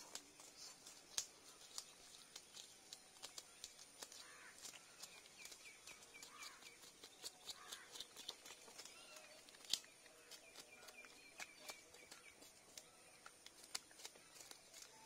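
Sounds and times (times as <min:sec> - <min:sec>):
fish scales being scraped: 0:00.0 - 0:12.3
bird chirping: 0:00.0 - 0:15.0.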